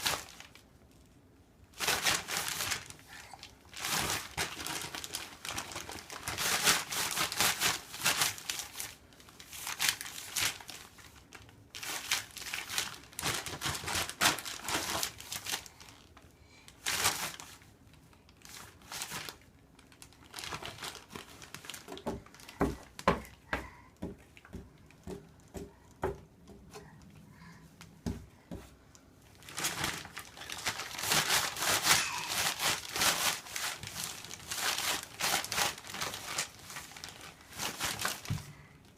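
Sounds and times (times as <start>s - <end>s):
crinkly material crumpling: 0.0s - 23.8s, 28.3s - 38.9s.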